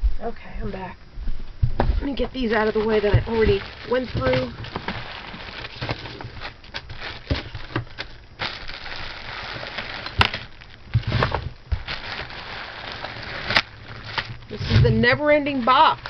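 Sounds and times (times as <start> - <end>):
plastic bags rustling: 2.1 - 16.0.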